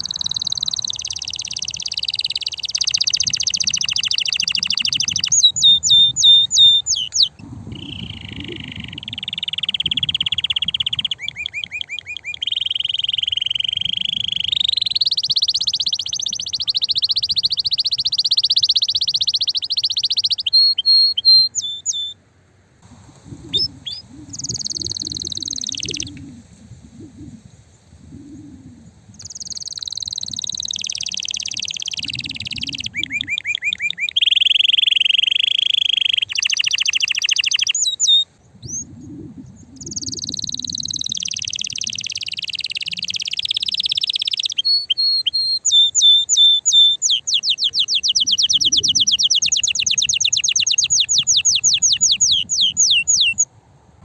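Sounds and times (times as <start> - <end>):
canary singing trills: 0.0 - 22.2, 23.2 - 27.5, 28.2 - 53.5.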